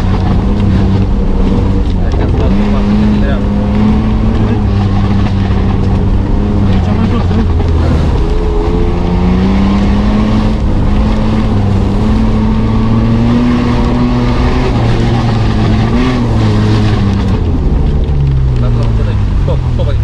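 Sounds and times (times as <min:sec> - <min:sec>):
engine running hard: 0:00.0 - 0:20.0.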